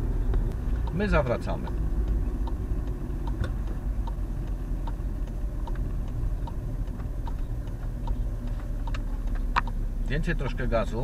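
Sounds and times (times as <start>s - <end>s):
engine and tyre rumble: 0.0s - 11.0s
turn signal ticking: 0.0s - 11.0s.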